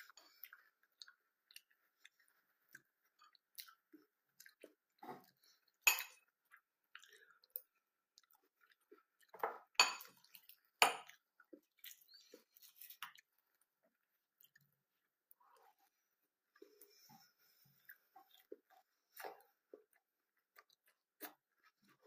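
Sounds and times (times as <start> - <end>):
person chewing cornflakes: 0.0 - 15.8, 17.8 - 22.0.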